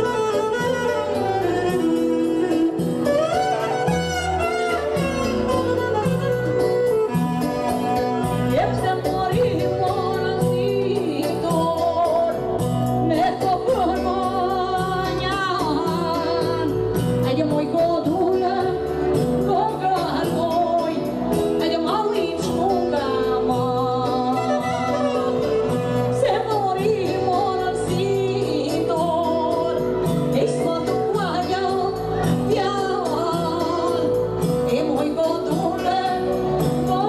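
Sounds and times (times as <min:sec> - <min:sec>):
keyboard: 0:00.0 - 0:37.0
woman singing into microphone: 0:00.0 - 0:37.0.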